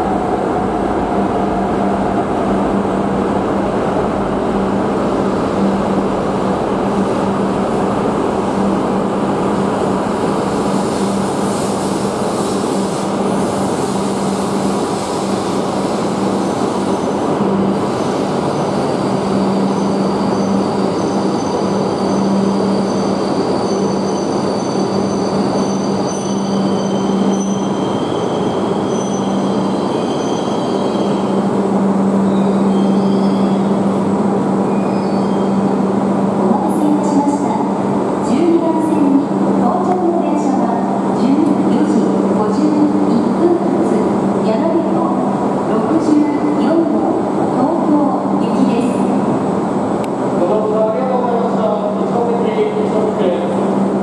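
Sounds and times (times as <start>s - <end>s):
train rumbling and braking: 0.0s - 54.0s.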